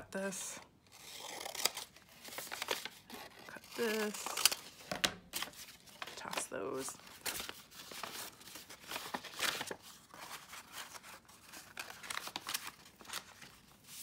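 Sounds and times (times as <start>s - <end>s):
paper rustling and crinkling: 0.9s - 14.0s.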